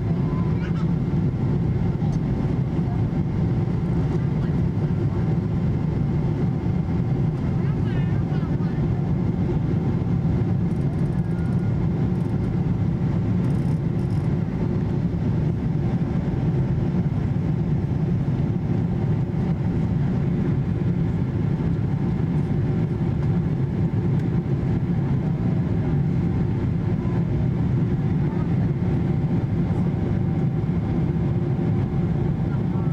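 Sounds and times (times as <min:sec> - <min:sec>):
jet engine cabin roar: 0:00.0 - 0:32.9.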